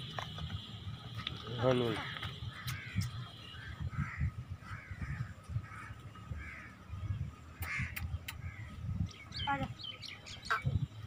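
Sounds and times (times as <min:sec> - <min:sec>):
bird calling: 0:01.4 - 0:11.0.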